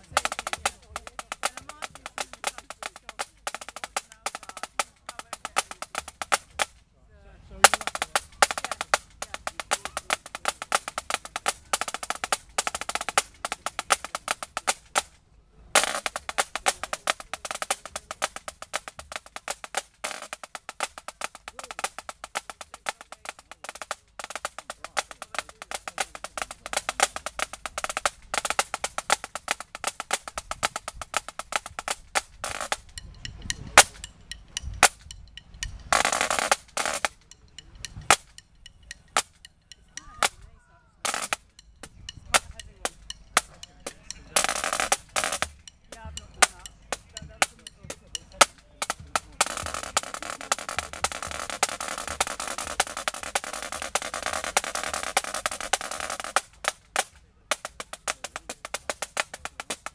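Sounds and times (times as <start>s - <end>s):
snare drum strokes and rolls: 0.0s - 6.8s, 7.5s - 59.9s.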